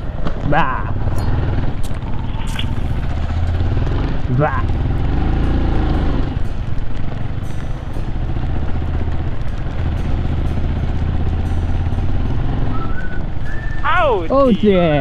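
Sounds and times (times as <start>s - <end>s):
motorcycle engine running at low revs: 0.0s - 15.0s
tyres rumbling on gravel: 0.0s - 15.0s.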